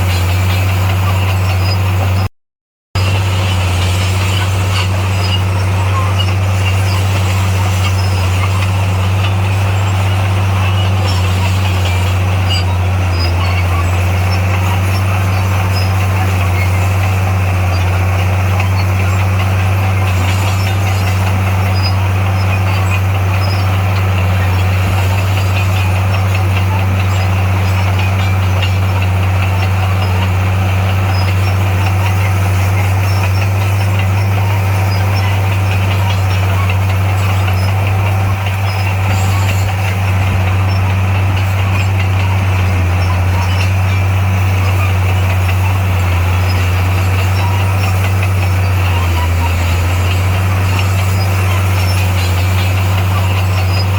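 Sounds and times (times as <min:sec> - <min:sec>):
heavy diesel engine droning: 0:00.0 - 0:02.3, 0:02.9 - 0:53.9.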